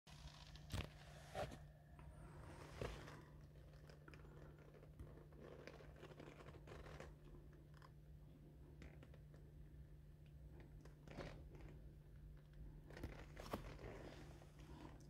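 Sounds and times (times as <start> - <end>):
faint low hum: 0.1 - 15.0.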